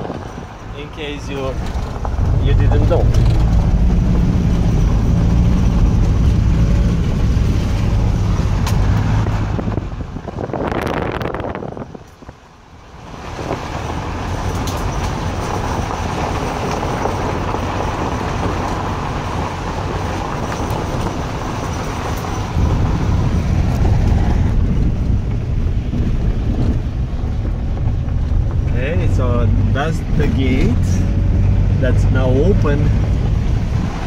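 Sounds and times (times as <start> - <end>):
tyres and engine rumble on gravel: 0.0 - 34.0.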